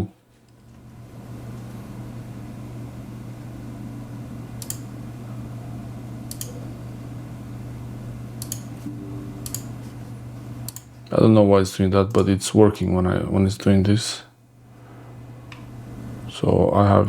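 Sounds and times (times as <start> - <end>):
computer humming: 0.0 - 13.4, 14.6 - 17.0.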